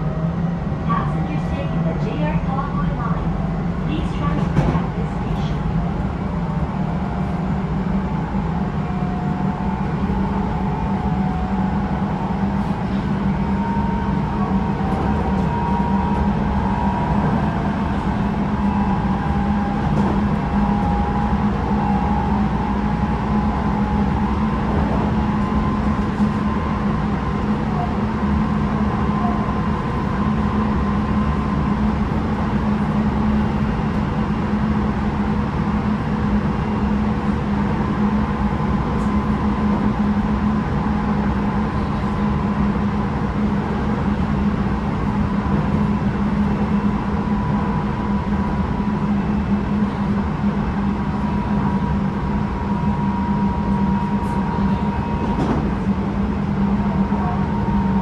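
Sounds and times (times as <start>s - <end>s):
electric train running rumble: 0.0s - 58.0s.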